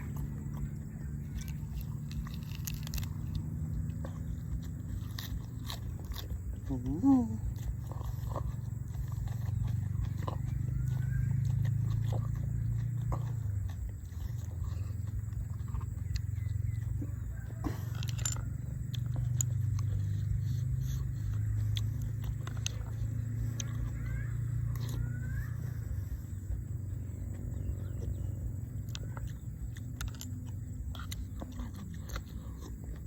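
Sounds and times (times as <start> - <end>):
bird chirping: 0.0 - 17.7, 18.5 - 33.0
person chewing food: 0.0 - 33.0.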